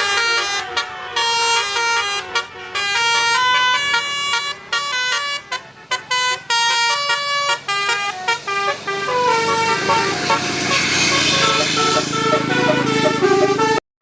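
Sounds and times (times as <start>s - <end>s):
multi-tone bus horn melody: 0.0s - 13.8s.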